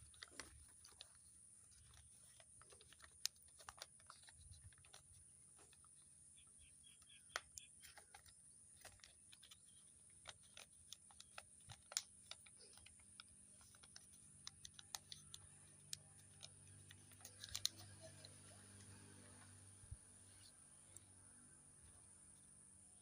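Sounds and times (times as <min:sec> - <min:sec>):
paper crinkling: 0:00.0 - 0:19.4.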